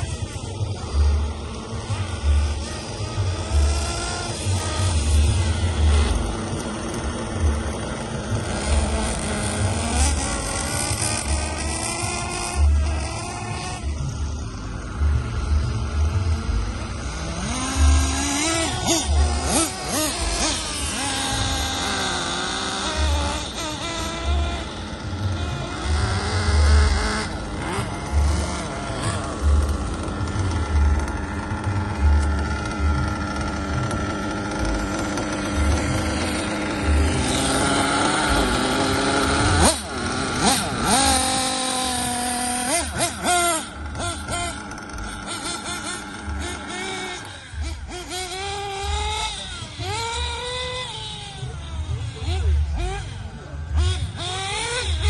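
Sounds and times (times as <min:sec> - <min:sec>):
small model car engine revving: 0:00.0 - 0:55.0.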